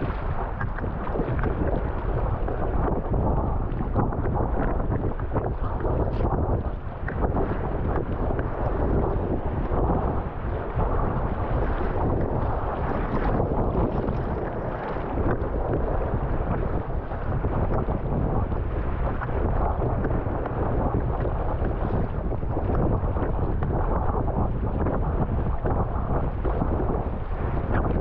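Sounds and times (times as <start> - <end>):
waves and water splashing: 0.0 - 28.0
wind buffeting microphone: 0.0 - 28.0.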